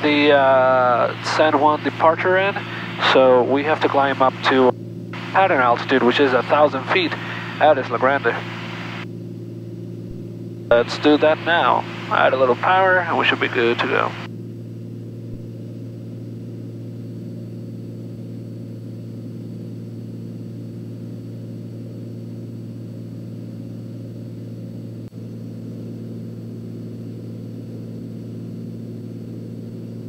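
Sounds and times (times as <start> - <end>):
aircraft engine and propeller drone: 0.0 - 30.0.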